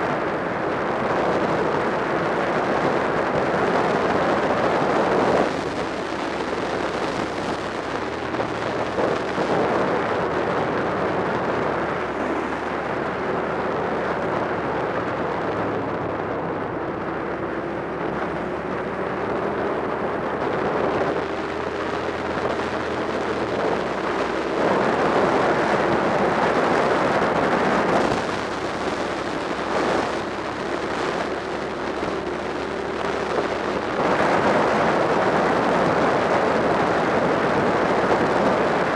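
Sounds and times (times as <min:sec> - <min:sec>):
motorcycle engine: 0:00.0 - 0:38.9
wind rush: 0:00.0 - 0:38.9.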